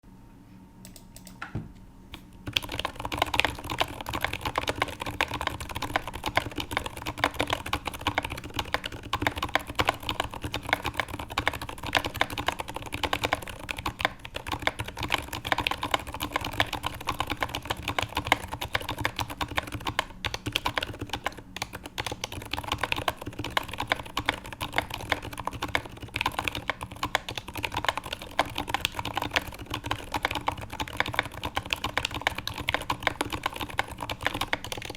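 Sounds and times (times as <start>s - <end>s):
fast typing on mechanical keyboard: 2.4s - 34.9s.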